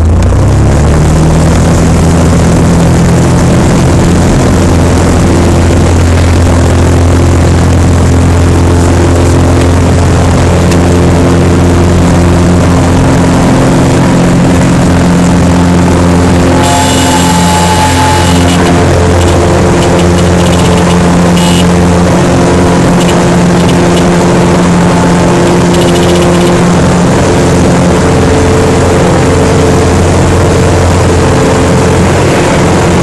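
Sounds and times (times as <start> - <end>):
airplane engine and propeller: 0.0 - 33.0.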